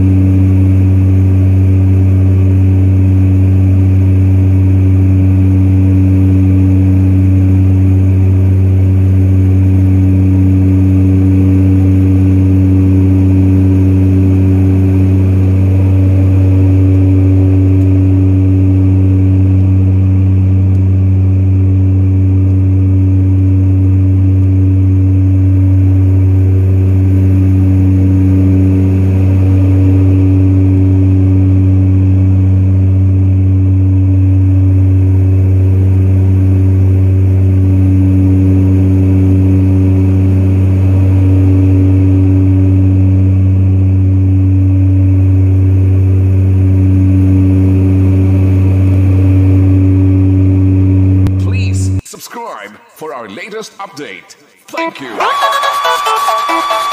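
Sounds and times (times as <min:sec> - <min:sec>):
turboprop engine droning in cabin: 0:00.0 - 0:52.0.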